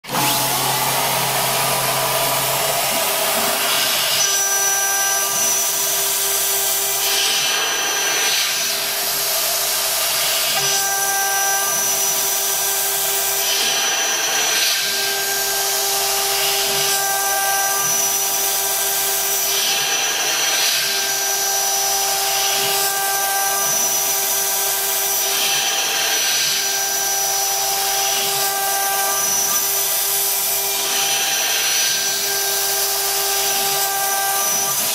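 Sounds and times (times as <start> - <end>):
end mill cutting metal: 0.0 - 34.9.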